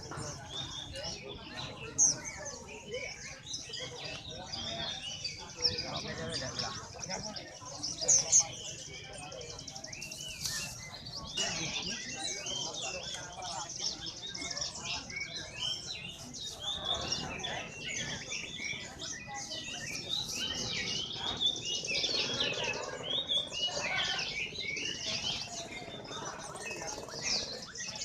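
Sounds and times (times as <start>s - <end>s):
songbirds chirping and singing: 0.0s - 28.0s.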